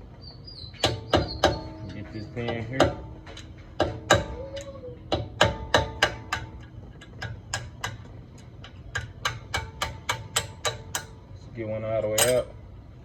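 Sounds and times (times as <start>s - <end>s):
hammer tapping metal: 0.8s - 11.3s, 12.2s - 12.6s.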